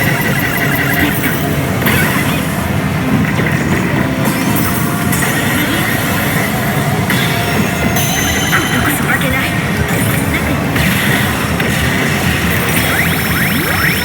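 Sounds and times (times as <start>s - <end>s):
electronic machine sound effects: 0.0s - 14.0s
pachinko machines clattering: 0.0s - 14.0s.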